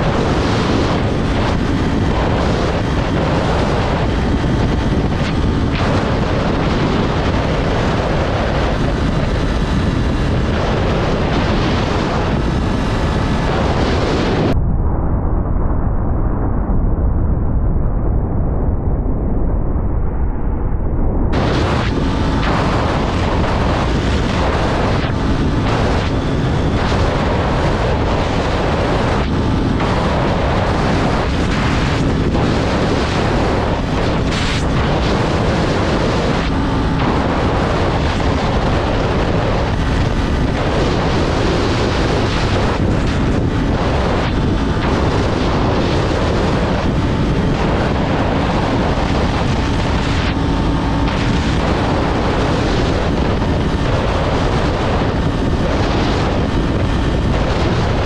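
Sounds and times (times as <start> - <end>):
motorcycle engine drone: 0.0 - 58.0
wind buffeting microphone: 0.0 - 58.0.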